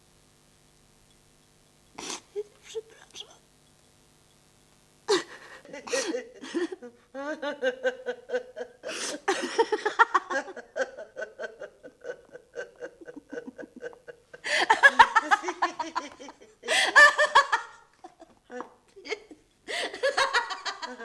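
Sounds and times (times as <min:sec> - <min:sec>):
woman laughing: 0:02.0 - 0:03.2, 0:05.1 - 0:21.0.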